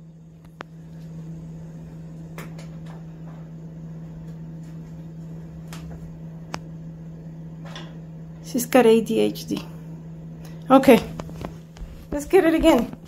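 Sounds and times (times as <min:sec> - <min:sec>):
appliance humming: 0:00.0 - 0:13.0.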